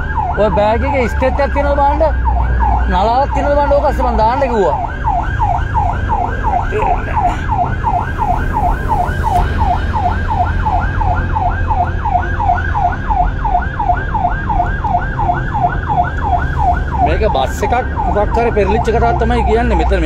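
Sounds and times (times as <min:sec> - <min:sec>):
emergency siren yelping: 0:00.0 - 0:20.0
vehicle low rumble: 0:00.0 - 0:20.0.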